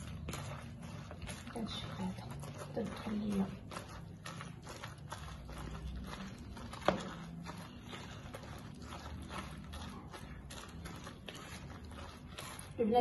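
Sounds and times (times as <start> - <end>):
hands mixing food in a bowl: 0.0 - 13.0.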